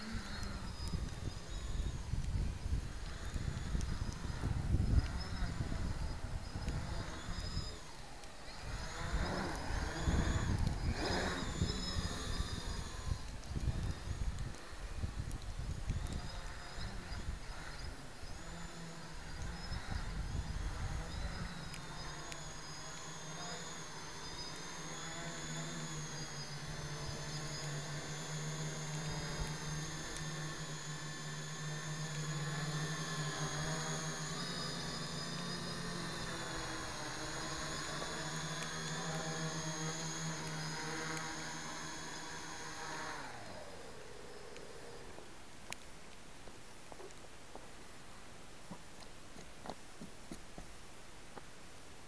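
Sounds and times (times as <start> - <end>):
motors spinning down: 0.0 - 47.2
quadcopter motors buzzing: 0.0 - 52.0.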